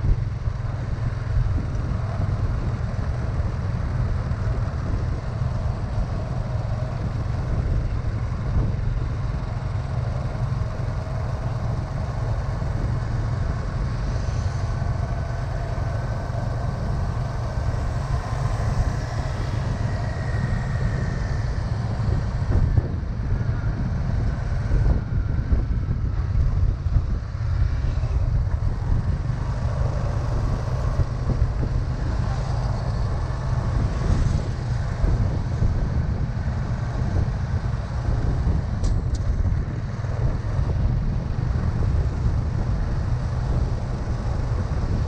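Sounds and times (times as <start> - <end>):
road noise: 0.0 - 45.0
vehicle engine droning: 0.0 - 45.0.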